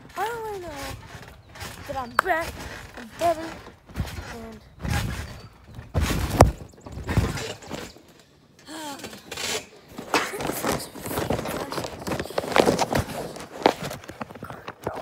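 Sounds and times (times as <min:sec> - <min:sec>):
irregular thumps and knocks: 0:00.0 - 0:08.2, 0:09.3 - 0:15.0.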